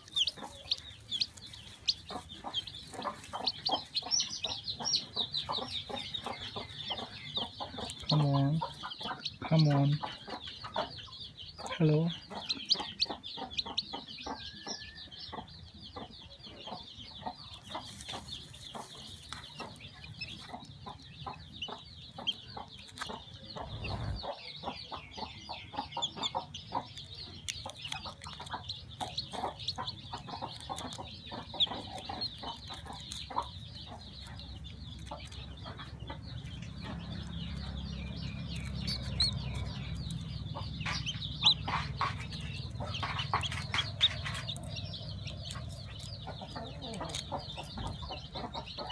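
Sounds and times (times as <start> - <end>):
chick cheeping: 0.0 - 48.9.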